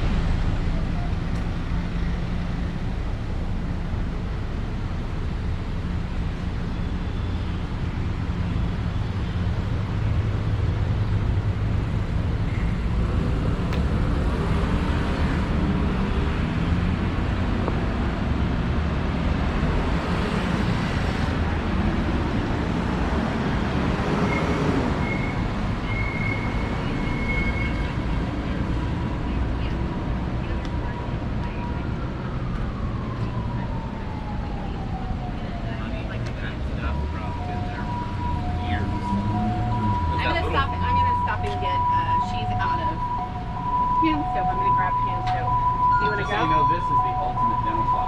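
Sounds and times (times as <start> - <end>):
city street traffic: 0.0 - 48.0
vehicles passing: 0.0 - 48.0.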